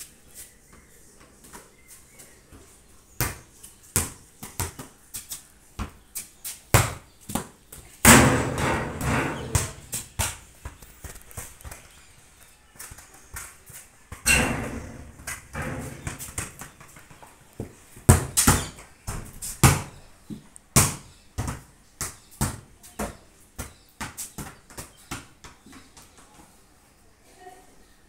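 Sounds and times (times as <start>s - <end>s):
ball bouncing on concrete: 2.5s - 26.4s.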